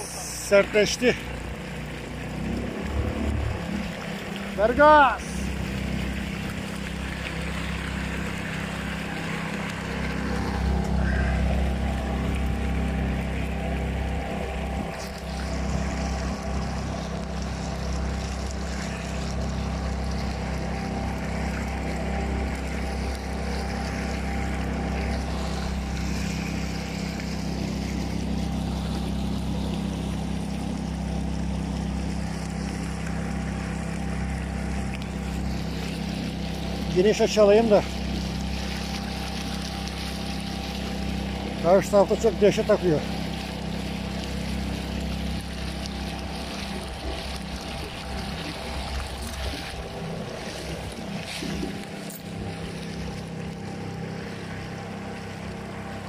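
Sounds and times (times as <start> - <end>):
boat motor droning: 0.0 - 56.0
water rushing along hull: 0.0 - 56.0.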